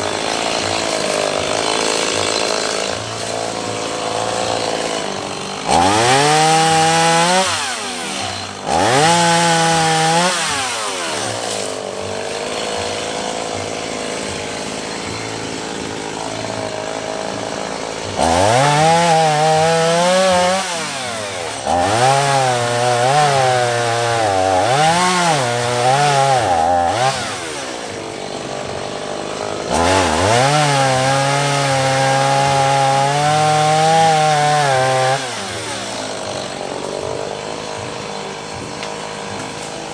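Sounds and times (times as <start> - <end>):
chainsaw cutting wood: 0.0 - 39.9
chainsaw revving and idling: 0.0 - 39.9.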